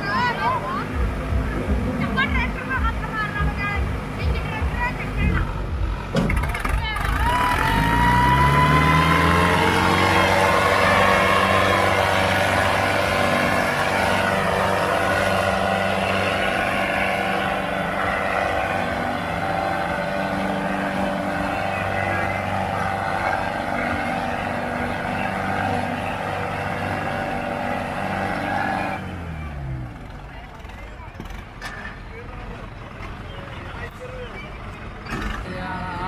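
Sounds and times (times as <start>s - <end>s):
tractor diesel engines droning: 0.0s - 36.0s.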